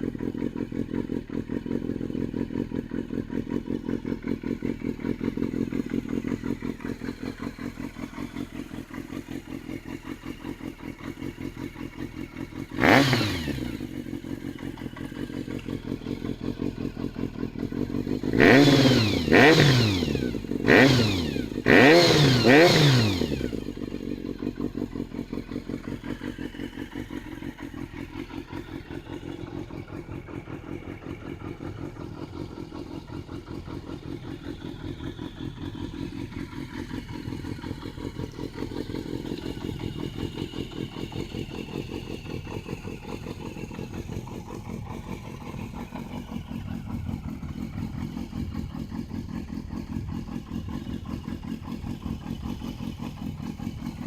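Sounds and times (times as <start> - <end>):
motorcycle engine idling: 0.0 - 54.0
motorcycle engine revving: 0.0 - 54.0.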